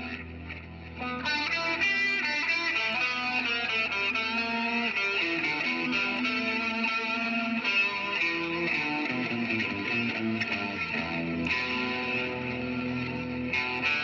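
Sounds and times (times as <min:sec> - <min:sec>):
electric guitar with wah effect: 0:00.0 - 0:14.0.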